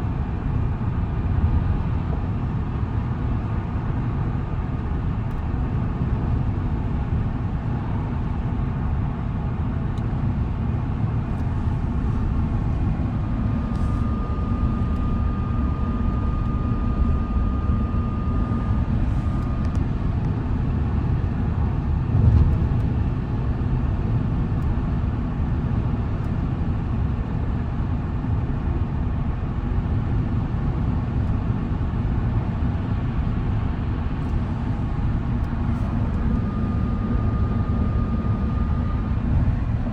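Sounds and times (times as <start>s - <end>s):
road and tyre noise: 0.0s - 27.6s, 31.9s - 39.9s.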